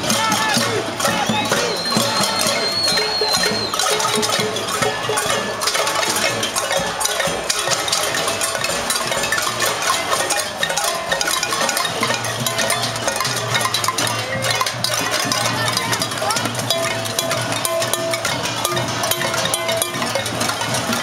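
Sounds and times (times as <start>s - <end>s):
crowd banging pots and pans: 0.0s - 21.0s.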